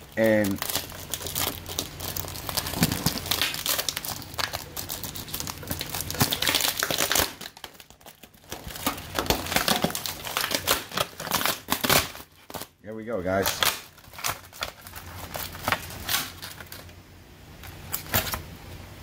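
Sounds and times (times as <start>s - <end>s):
crackling of stiff plastic wrap: 0.0s - 17.0s, 17.6s - 18.5s
low steady hum: 0.0s - 19.0s.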